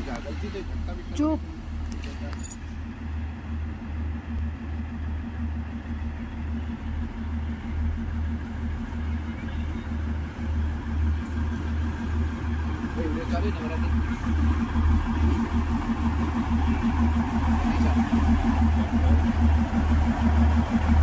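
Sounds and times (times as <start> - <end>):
diesel locomotive engine throbbing: 0.0 - 21.0.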